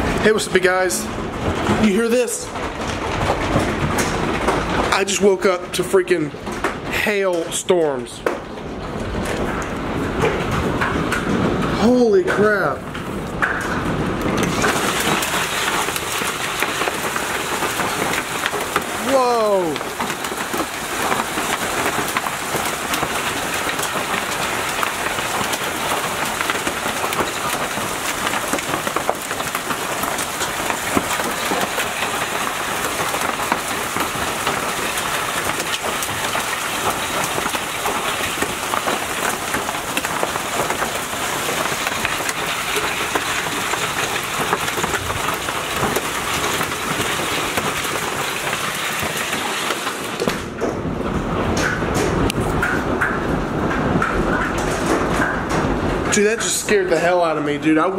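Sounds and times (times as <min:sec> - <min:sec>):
hail and heavy rain clattering: 0:00.0 - 0:57.9.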